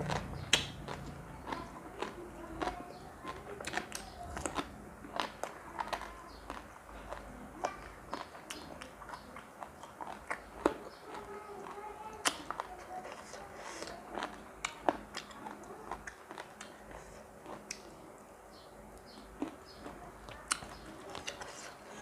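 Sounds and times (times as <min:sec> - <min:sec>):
person chewing crunchy food: 0:00.0 - 0:18.0, 0:19.0 - 0:22.0
faint background music: 0:00.0 - 0:22.0.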